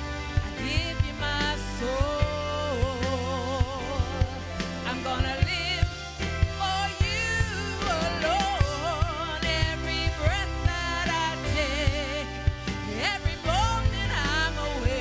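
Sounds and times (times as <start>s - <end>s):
drum kit: 0.0s - 15.0s
keyboard chords: 0.0s - 15.0s
person singing with vibrato: 0.0s - 15.0s.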